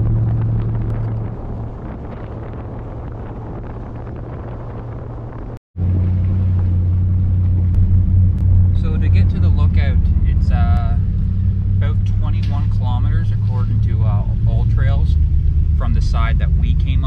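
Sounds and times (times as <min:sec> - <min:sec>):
vehicle driving hum: 0:00.0 - 0:17.0
wind noise: 0:00.0 - 0:17.0.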